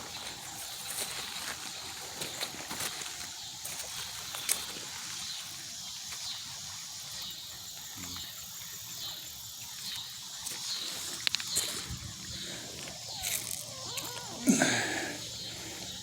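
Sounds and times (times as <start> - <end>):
steady high hiss of creek: 0.0 - 16.0.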